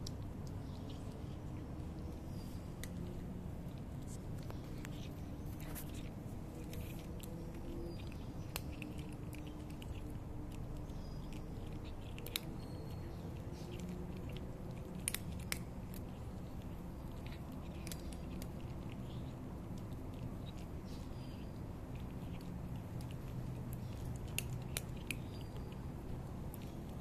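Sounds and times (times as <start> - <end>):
cat chewing dry kibble: 0.0 - 27.0
low background noise: 0.0 - 27.0.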